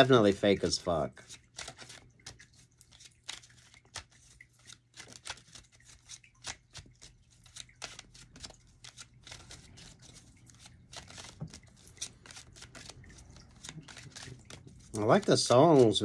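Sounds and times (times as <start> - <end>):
cards being shuffled: 0.4 - 16.0.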